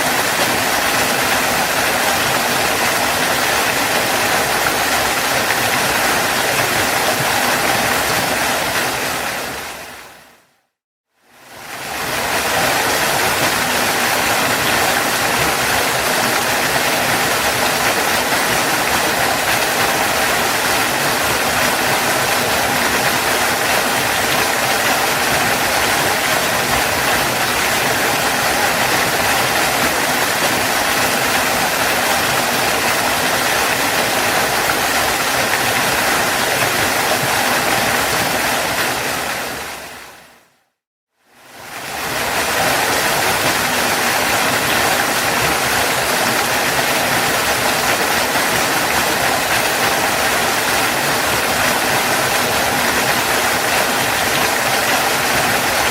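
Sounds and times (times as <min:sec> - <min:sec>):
waterfall rushing: 0:00.0 - 0:10.5, 0:11.4 - 0:40.5, 0:41.4 - 0:55.9.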